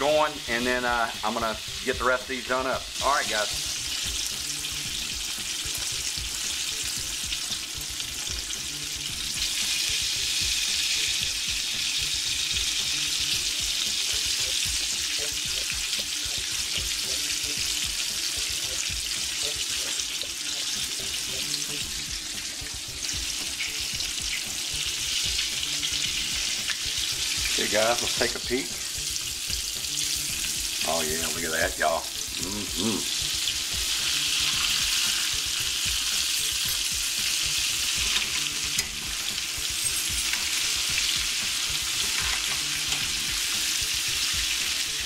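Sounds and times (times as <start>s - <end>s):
chicken frying in hot oil: 0.0s - 45.0s.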